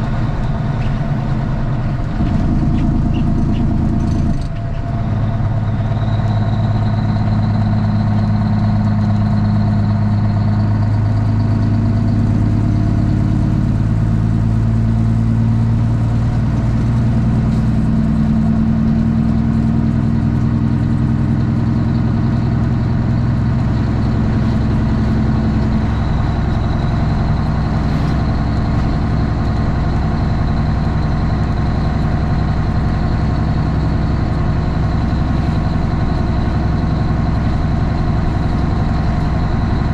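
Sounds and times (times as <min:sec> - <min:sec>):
loud diesel engine drone: 0:00.0 - 0:39.9.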